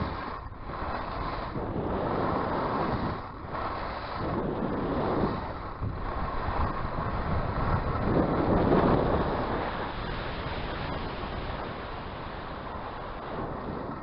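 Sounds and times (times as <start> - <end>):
skis hissing on snow: 0.0 - 13.6
wind rushing over microphone: 0.0 - 14.0.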